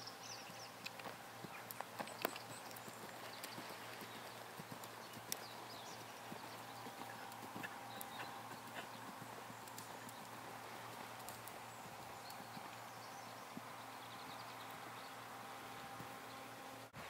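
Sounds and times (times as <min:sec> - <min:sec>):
faint hoofbeats of horse trotting: 0:00.0 - 0:17.0
steady background noise: 0:00.0 - 0:17.0.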